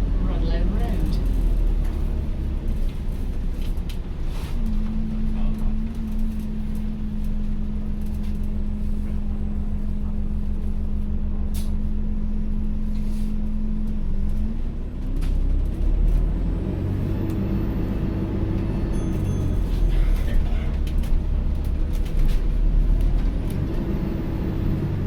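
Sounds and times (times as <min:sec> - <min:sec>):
bus cabin hum: 0:00.0 - 0:25.0.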